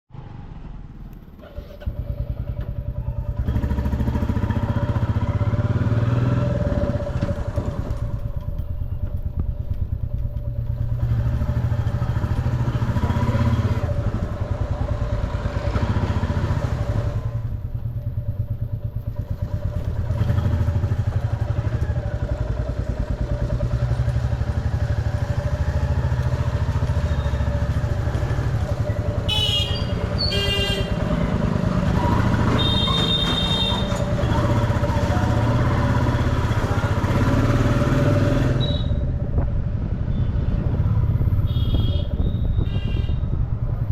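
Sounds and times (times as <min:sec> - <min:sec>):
street traffic: 0:00.0 - 0:43.9
motorcycle engine running: 0:01.4 - 0:43.9.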